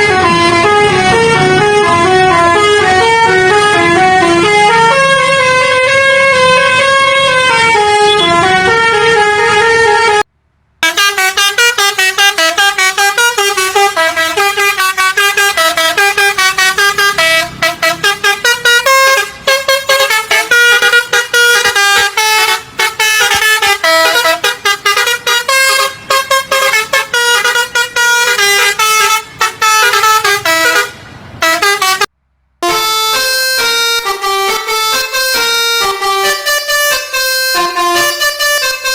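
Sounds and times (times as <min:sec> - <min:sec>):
multi-tone bus air horn melody: 0:00.0 - 0:38.9.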